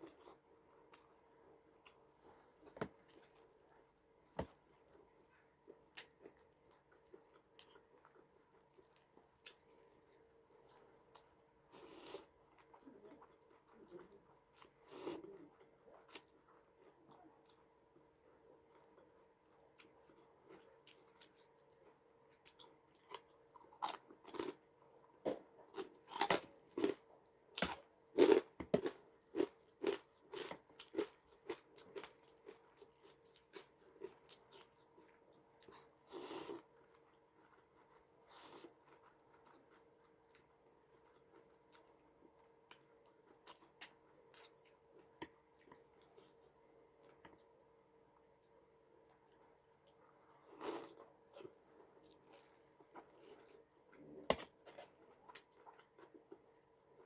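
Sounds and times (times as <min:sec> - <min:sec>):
faint steady hum: 0:00.0 - 0:57.0
person chewing crunchy food: 0:05.8 - 0:47.5, 0:49.8 - 0:57.0.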